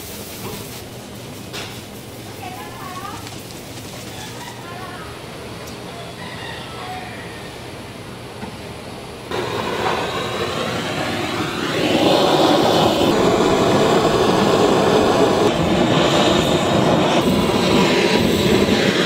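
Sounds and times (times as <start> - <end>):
blowtorch flame hissing: 0.0 - 5.8, 7.4 - 19.0.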